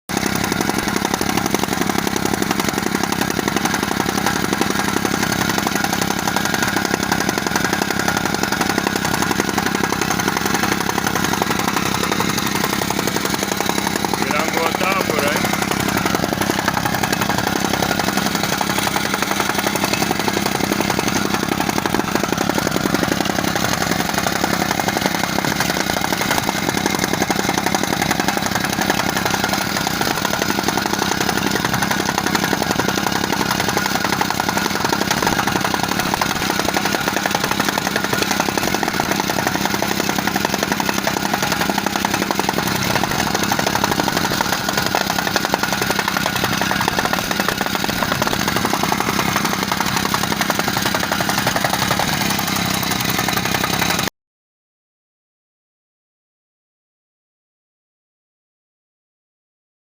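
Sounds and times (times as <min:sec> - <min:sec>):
jumping compactor clattering: 0:00.1 - 0:54.1.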